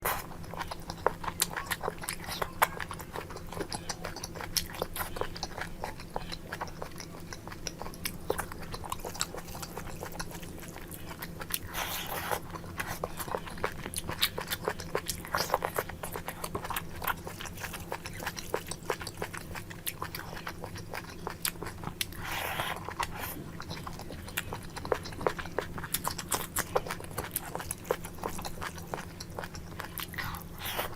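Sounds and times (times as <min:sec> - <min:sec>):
faint steady hum: 0:00.0 - 0:30.9
person chewing close to microphone: 0:00.0 - 0:30.9.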